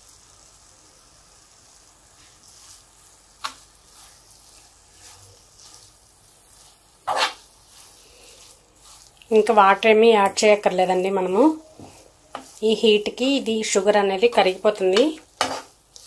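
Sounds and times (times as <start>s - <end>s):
faint sizzling: 0.0s - 16.0s
spoon stirring in frying pan: 1.6s - 16.0s.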